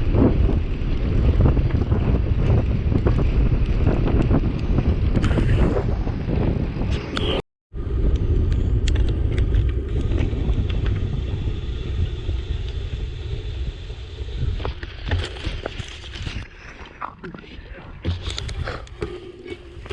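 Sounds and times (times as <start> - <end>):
wind buffeting microphone: 0.0 - 16.5.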